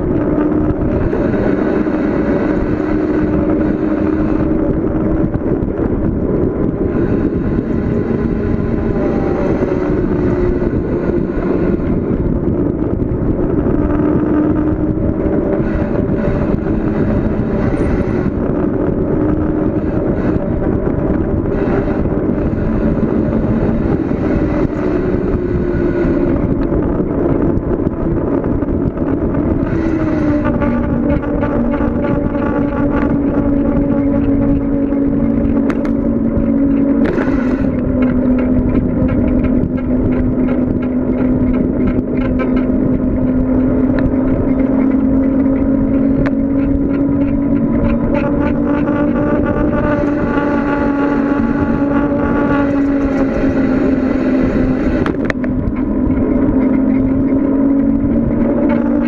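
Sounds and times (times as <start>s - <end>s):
faint wavering hum: 0.0s - 59.0s
wind and road noise: 0.0s - 59.0s.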